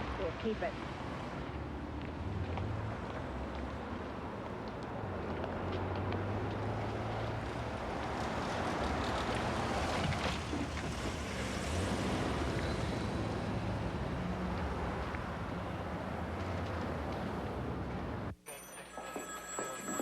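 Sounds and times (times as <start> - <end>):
vehicle engine rumble: 0.8 - 18.4.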